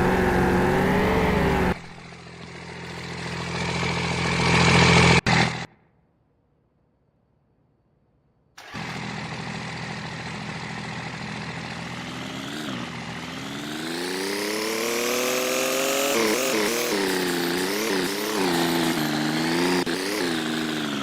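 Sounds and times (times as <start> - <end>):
engine running and revving: 0.0 - 5.7, 8.6 - 21.0.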